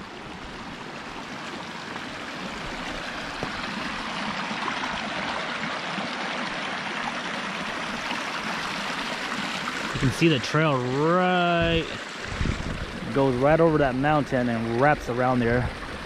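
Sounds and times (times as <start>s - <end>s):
creek rushing over stones: 0.0s - 16.0s.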